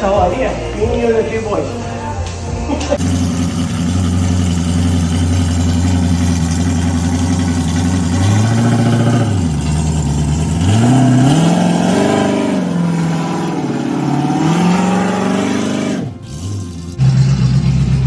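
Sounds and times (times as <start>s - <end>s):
car engine revving: 2.7s - 18.0s.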